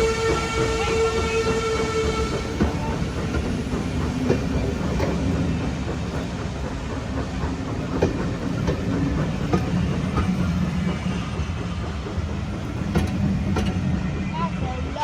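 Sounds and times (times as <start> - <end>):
wheels clacking over rail joints: 0.0 - 14.4
train rumbling on rails: 0.0 - 15.0.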